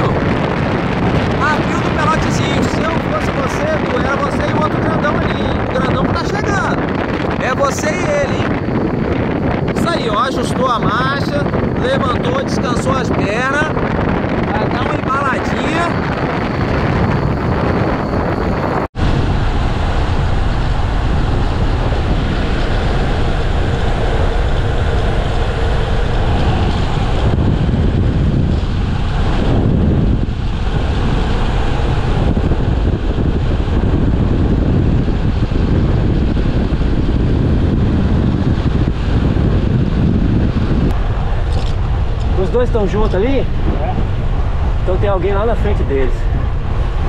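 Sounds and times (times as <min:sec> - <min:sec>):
car road noise: 0:00.0 - 0:47.0
wind buffeting microphone: 0:00.0 - 0:47.0.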